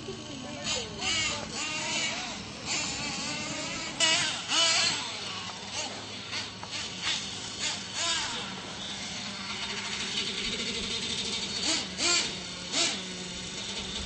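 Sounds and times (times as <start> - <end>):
radio-controlled trucks motor hum: 0.0 - 14.0.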